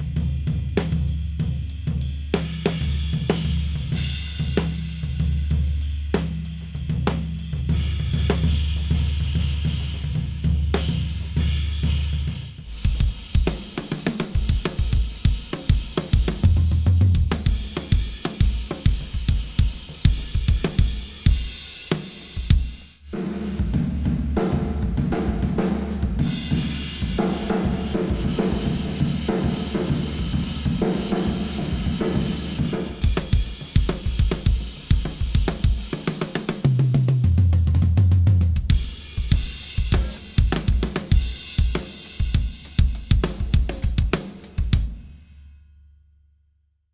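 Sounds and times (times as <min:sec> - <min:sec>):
drum kit groove: 0:00.0 - 0:45.3.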